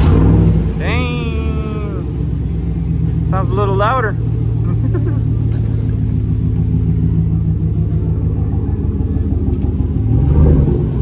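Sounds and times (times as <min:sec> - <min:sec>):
engine exhaust rumble idling: 0:00.0 - 0:11.0
engine revving: 0:00.0 - 0:11.0.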